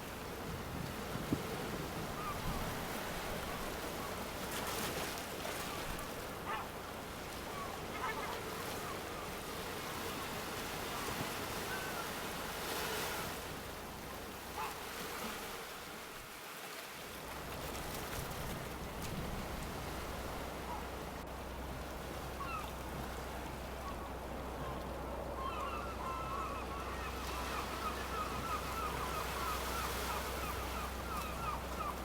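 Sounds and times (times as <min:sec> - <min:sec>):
sea waves breaking: 0:00.0 - 0:32.0.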